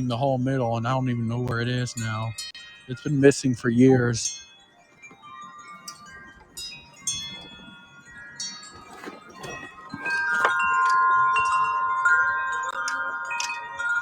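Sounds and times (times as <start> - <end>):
metal wind chime ringing: 0.0 - 14.0.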